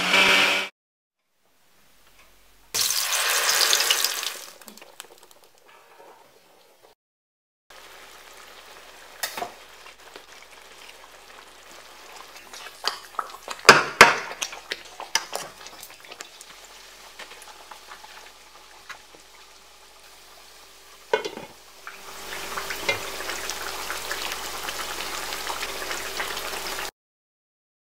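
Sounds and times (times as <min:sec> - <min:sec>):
stew sizzling and bubbling: 0:01.3 - 0:07.0, 0:07.7 - 0:26.9.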